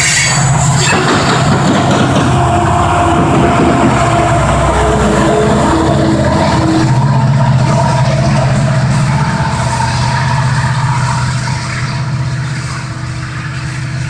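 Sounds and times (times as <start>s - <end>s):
diesel locomotive engine hum: 0.0s - 14.0s.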